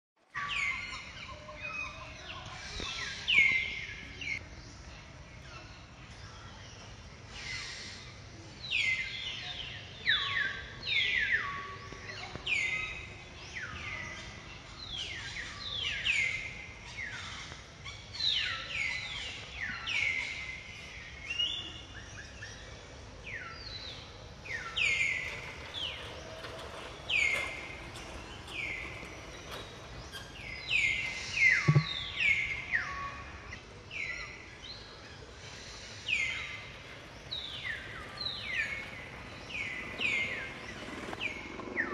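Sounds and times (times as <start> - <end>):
faint outdoor background: 0.2 - 41.9
birds chirping: 0.3 - 41.9.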